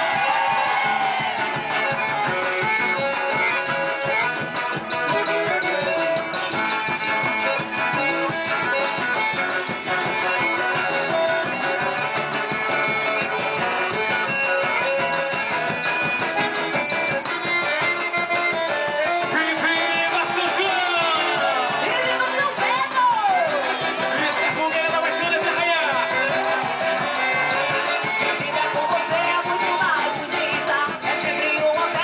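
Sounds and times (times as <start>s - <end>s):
held melody notes: 0.0s - 32.0s
steady percussion beat: 0.0s - 32.0s.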